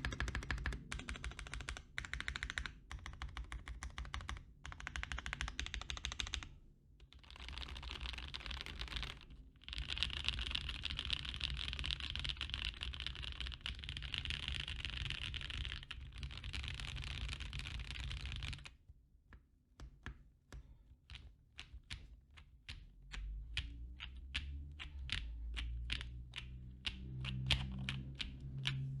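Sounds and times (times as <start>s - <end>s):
typing on mechanical keyboard: 0.0s - 18.8s, 20.5s - 29.0s.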